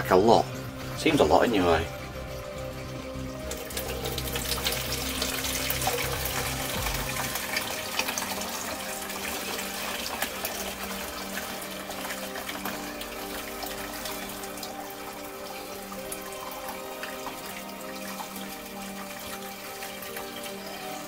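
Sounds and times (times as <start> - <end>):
liquid trickling into a jug: 0.0 - 21.0.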